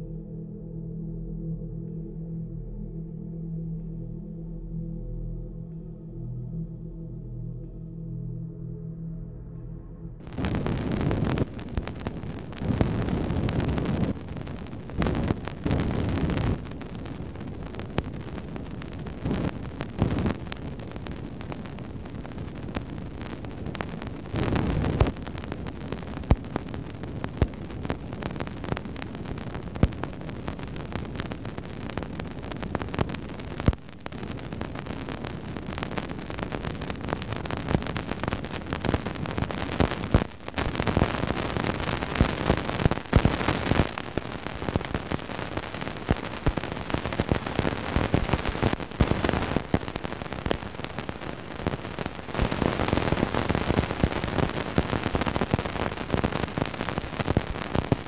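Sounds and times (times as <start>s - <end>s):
crackling pops: 10.2s - 58.0s
static hiss: 10.2s - 58.0s.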